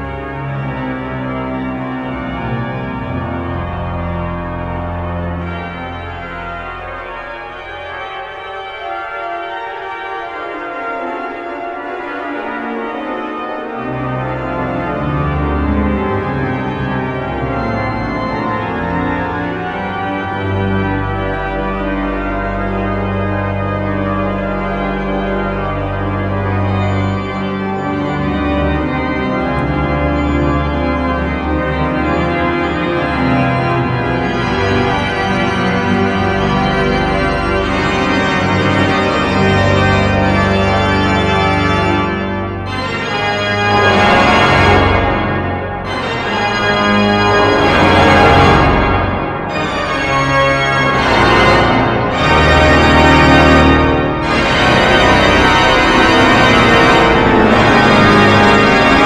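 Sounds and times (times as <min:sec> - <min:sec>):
pipe organ chords: 0:00.0 - 0:59.0.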